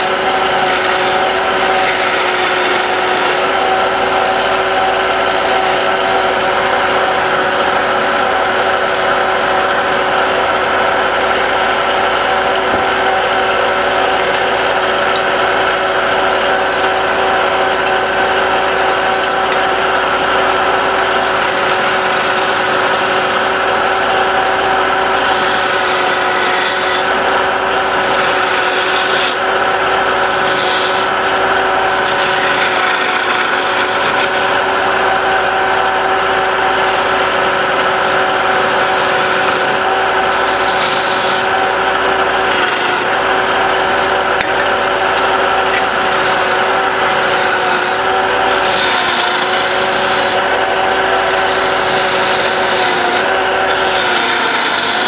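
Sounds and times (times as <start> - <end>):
tool scraping spinning wood: 0.0 - 55.0
wood lathe motor hum: 0.0 - 55.0.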